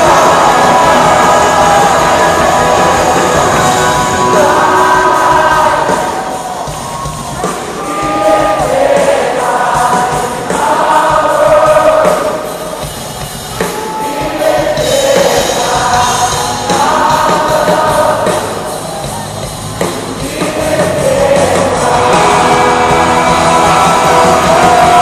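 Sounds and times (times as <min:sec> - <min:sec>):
amplified band playing: 0:00.0 - 0:25.0
crowd singing along: 0:00.0 - 0:25.0.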